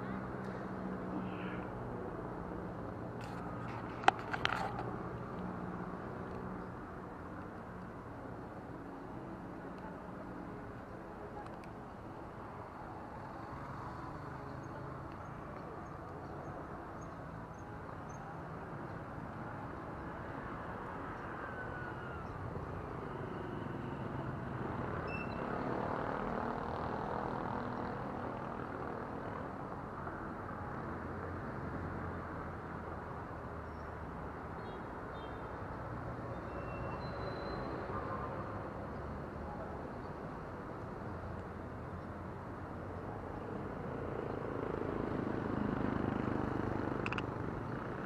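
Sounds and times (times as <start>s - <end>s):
distant road traffic hum: 0.0s - 48.0s.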